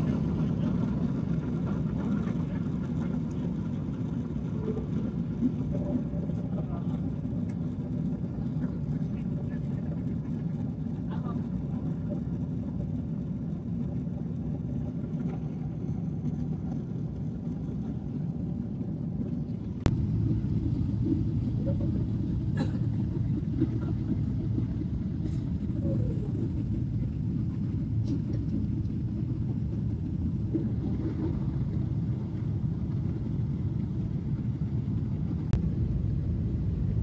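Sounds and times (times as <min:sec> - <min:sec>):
airliner cabin drone: 0:00.0 - 0:37.0.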